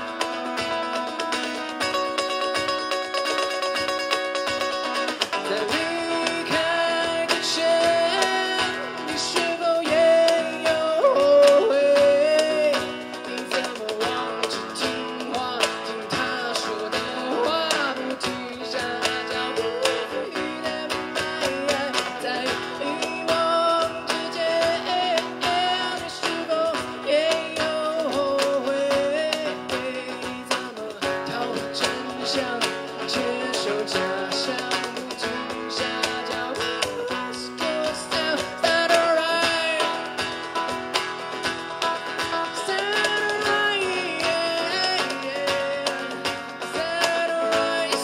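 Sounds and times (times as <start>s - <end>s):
drums: 0.0s - 48.0s
strummed guitar: 0.0s - 48.0s.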